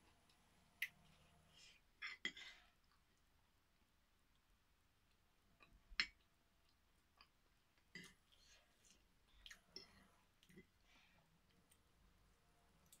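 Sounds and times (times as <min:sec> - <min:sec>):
quiet chewing: 0:00.1 - 0:12.1, 0:12.8 - 0:13.0.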